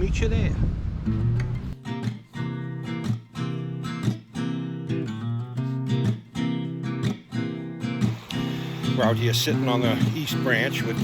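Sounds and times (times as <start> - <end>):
strummed acoustic guitar: 1.0 - 11.0.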